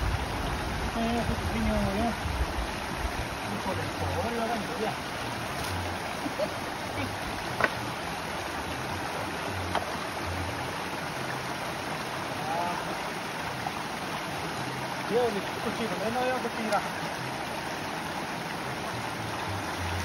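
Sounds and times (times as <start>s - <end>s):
stream running over stones: 0.0s - 20.0s.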